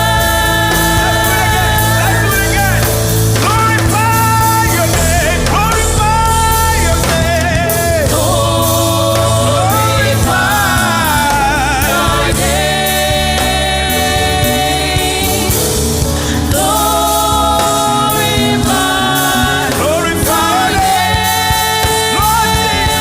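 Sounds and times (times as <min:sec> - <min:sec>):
choir singing: 0:00.0 - 0:23.0
gospel band playing: 0:00.0 - 0:23.0.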